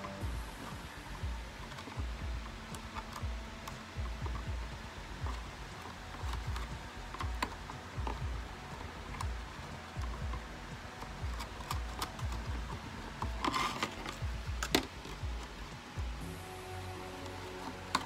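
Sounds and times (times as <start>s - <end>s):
plastic shell rustling: 0.0s - 16.0s, 16.8s - 18.0s.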